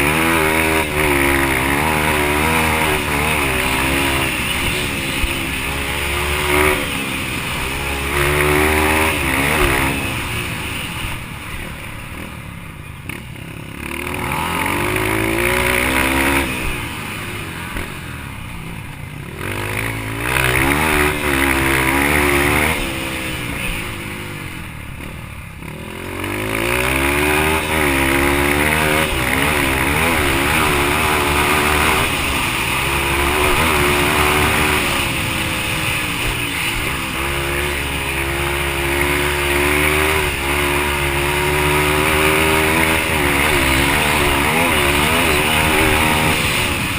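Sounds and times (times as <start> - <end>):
dirt bike engine racing: 0.0 - 46.9.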